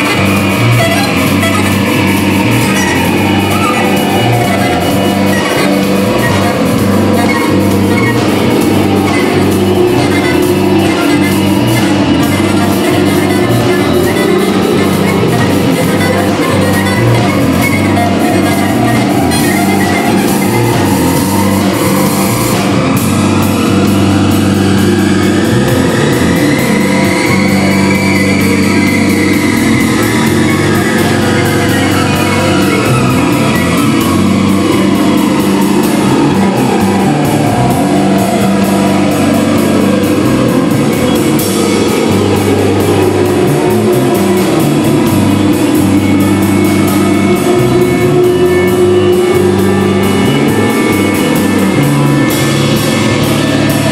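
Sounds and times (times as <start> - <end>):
experimental rock band playing: 0.0 - 53.9
sweeping tone: 0.0 - 53.9.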